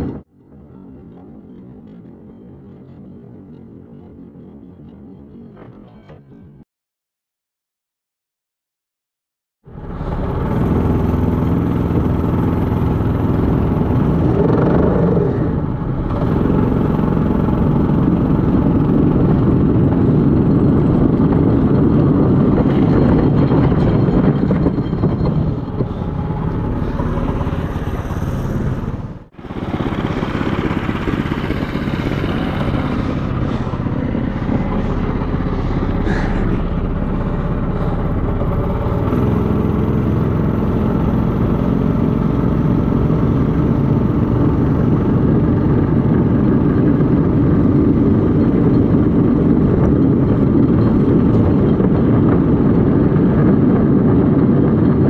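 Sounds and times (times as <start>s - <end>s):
railcart running on rails: 9.7s - 55.0s
wind on microphone: 9.7s - 55.0s.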